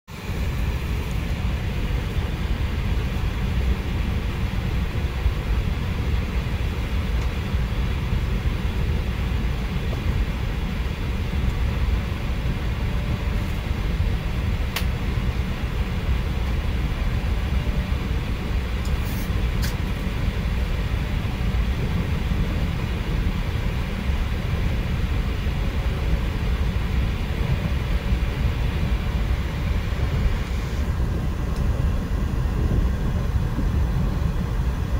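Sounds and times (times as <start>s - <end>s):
train interior low rumble: 0.1s - 34.9s.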